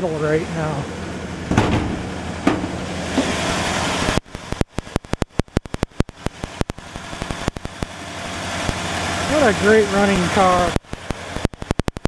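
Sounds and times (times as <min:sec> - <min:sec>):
car engine idling fast: 0:00.0 - 0:12.0.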